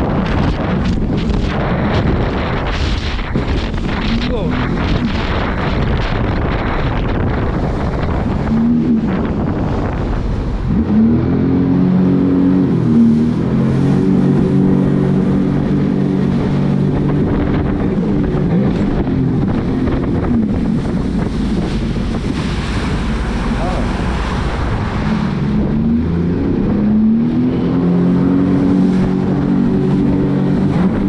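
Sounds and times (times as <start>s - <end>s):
jet ski engine running: 0.0s - 31.0s
water rushing: 0.0s - 31.0s
wind on microphone: 0.0s - 31.0s.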